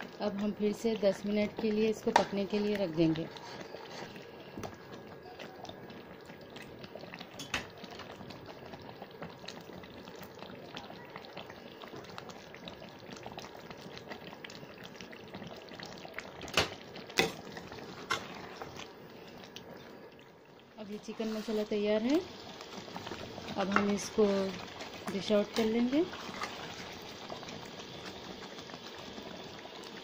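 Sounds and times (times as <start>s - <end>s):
gravy bubbling in a pan: 0.0s - 30.0s.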